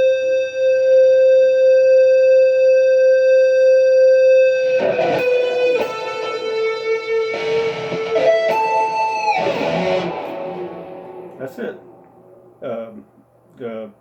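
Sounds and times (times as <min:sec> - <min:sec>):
electric guitar notes: 0:00.0 - 0:13.6.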